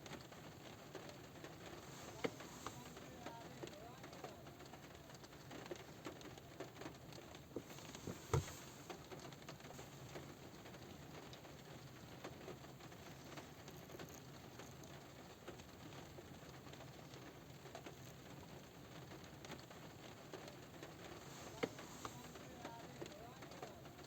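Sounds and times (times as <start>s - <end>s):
rain pattering on car roof: 0.0s - 24.0s.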